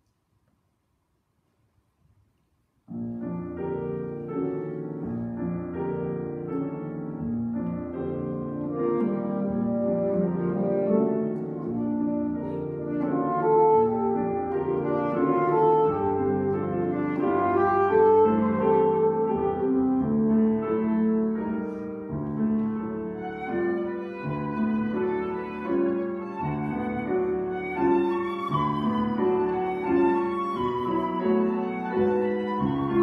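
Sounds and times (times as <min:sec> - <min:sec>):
piano playing: 0:02.9 - 0:33.0.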